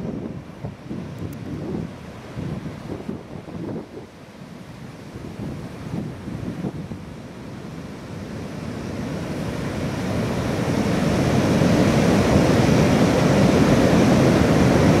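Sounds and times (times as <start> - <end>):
ocean surf breaking over rocks: 0.0 - 15.0.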